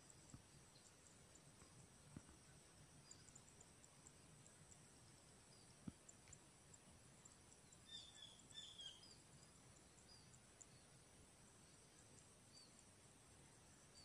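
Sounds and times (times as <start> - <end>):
soft bird chirps: 0.0 - 13.0
high insect trill: 0.0 - 14.0.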